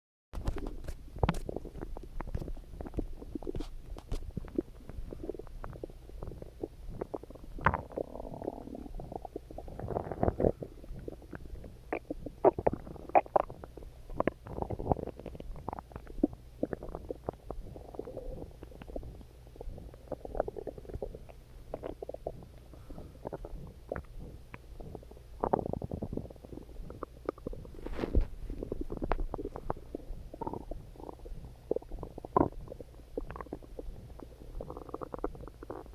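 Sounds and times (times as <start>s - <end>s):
stomach growling: 0.4s - 35.9s.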